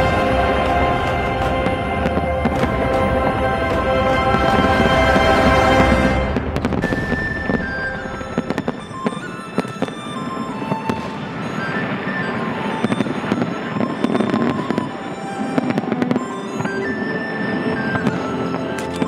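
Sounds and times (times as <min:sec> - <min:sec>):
fireworks crackling and popping: 0:00.0 - 0:19.0
music with a melody: 0:00.0 - 0:19.0.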